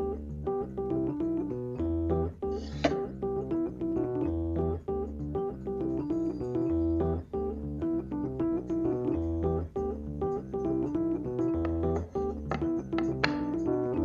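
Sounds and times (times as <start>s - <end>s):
keyboard music: 0.0s - 14.0s.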